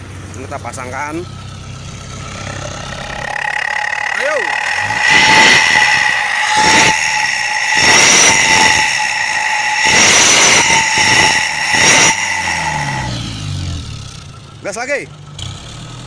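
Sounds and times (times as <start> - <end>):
engine revving: 0.0 - 16.0
exhaust high whistle: 0.8 - 14.7.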